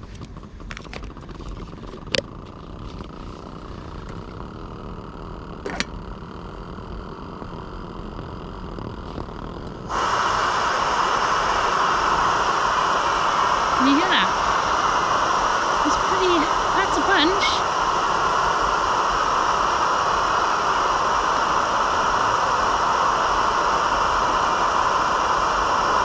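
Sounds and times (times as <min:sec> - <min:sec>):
gas stove burner hissing: 0:00.0 - 0:26.0.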